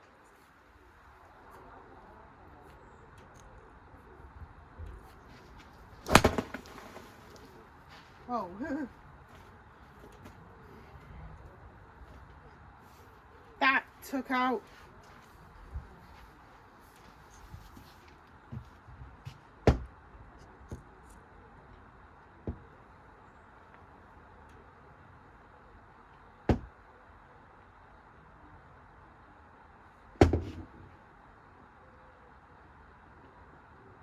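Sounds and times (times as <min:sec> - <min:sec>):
faint background rumble and hiss: 0:00.0 - 0:34.0.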